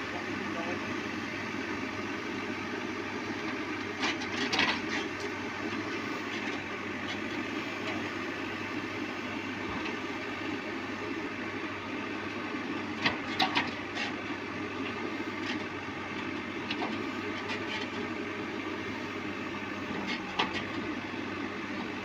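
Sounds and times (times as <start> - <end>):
backhoe diesel engine running: 0.0 - 22.0.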